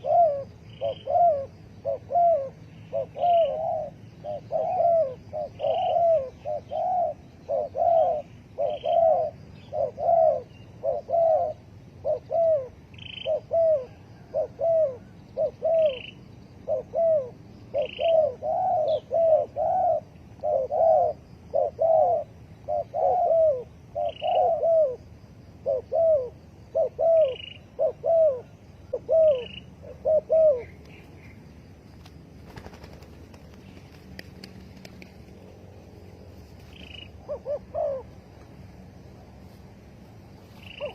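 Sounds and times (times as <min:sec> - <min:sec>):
doves cooing: 0:00.0 - 0:39.0, 0:40.4 - 0:40.9.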